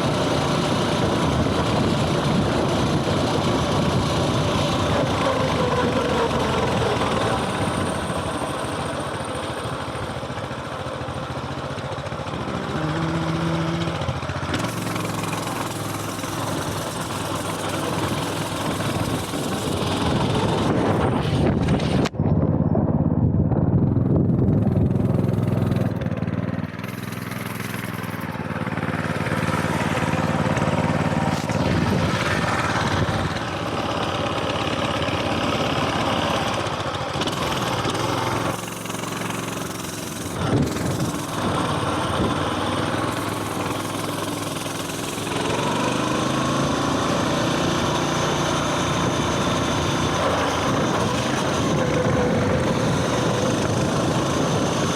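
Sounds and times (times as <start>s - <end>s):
mini bike engine running: 0.0s - 22.1s, 23.9s - 54.9s.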